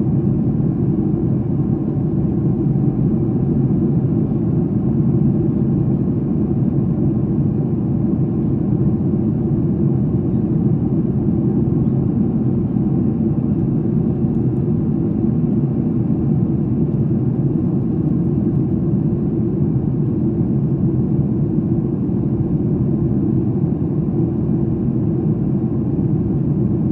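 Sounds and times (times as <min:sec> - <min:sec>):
airliner cabin engine rumble: 0:00.0 - 0:26.9.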